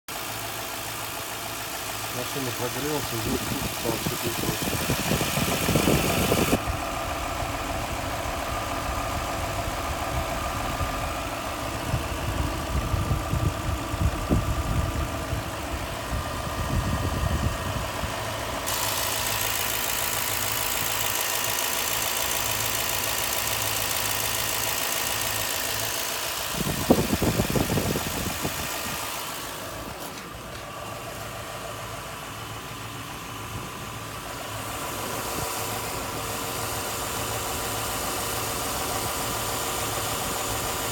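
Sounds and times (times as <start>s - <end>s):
engine knocking: 0.1s - 29.9s, 34.1s - 40.9s
car engine idling: 0.1s - 40.9s.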